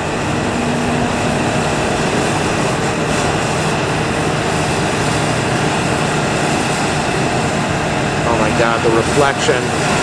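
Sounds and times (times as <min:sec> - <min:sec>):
loud engine drone: 0:00.0 - 0:10.0.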